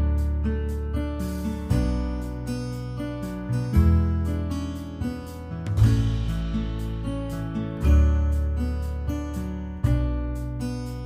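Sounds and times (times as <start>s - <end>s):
acoustic guitar picking and strumming: 0.0s - 11.0s
low bass: 0.0s - 11.0s.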